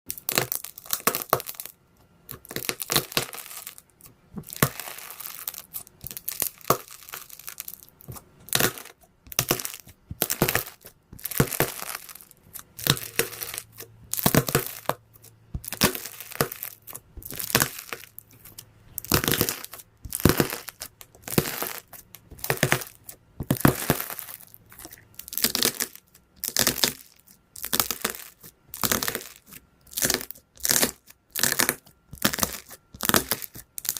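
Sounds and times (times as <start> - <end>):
slime squishing and crackling: 0.1 - 33.9.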